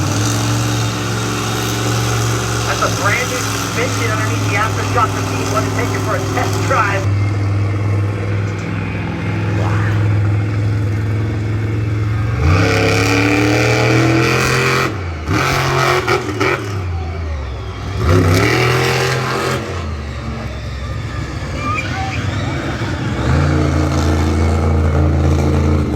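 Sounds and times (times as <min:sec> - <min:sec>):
monster truck engine idling and revving: 0:00.0 - 0:25.9.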